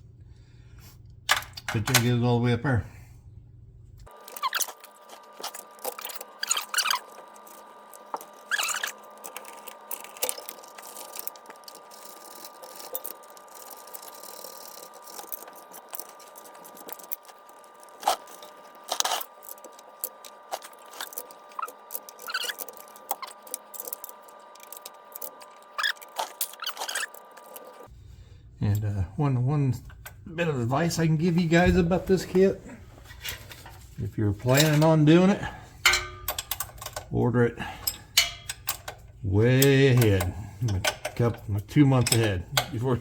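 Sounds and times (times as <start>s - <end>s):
faint steady hum: 0.0s - 43.0s
parts squeaking and scraping: 4.0s - 27.9s, 29.8s - 43.0s.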